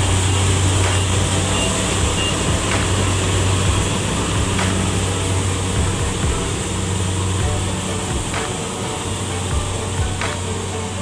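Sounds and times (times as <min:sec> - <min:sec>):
low engine drone: 0:00.0 - 0:11.0
machinery hiss: 0:00.0 - 0:11.0.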